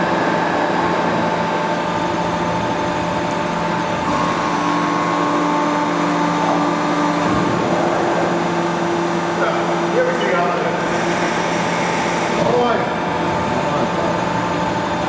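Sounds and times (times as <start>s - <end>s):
hydraulic pump humming: 0.0s - 15.0s.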